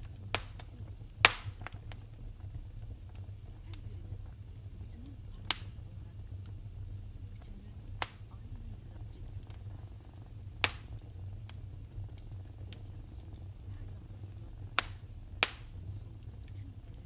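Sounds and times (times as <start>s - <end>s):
low rumble of fire: 0.0s - 17.0s
sharp crackling pops: 0.0s - 17.0s.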